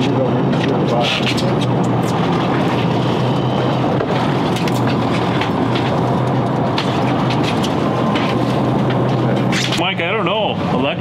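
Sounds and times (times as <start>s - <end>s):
boat engine humming: 0.0s - 11.0s
wind: 0.0s - 11.0s.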